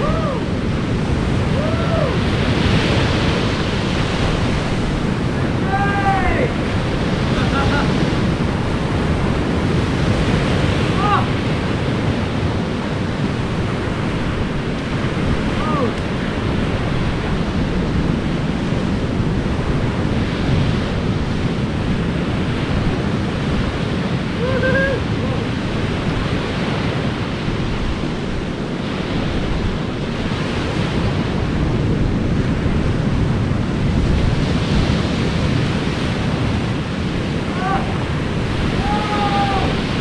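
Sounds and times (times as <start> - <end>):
waves breaking on beach: 0.0 - 40.0
wind buffeting microphone: 0.0 - 40.0.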